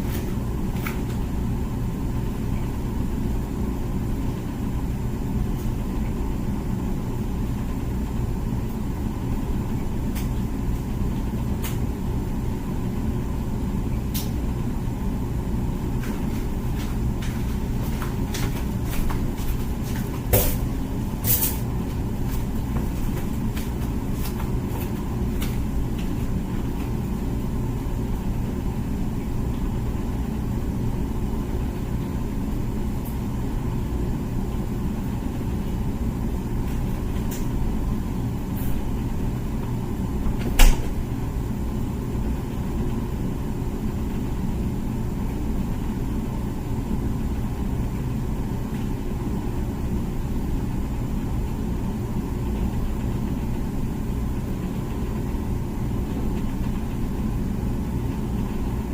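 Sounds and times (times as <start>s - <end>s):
dishwasher humming: 0.0s - 58.9s.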